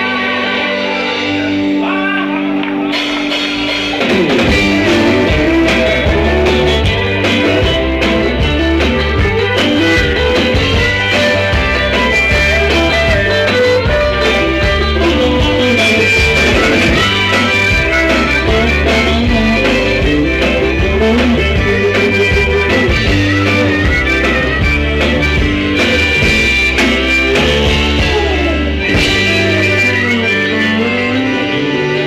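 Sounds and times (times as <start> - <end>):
bass guitar: 0.0 - 32.0
drums: 0.0 - 32.0
electric guitars: 0.0 - 32.0.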